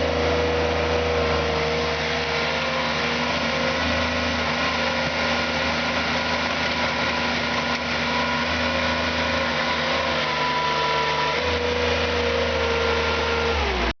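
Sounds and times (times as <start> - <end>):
loader engine running: 0.0 - 14.0.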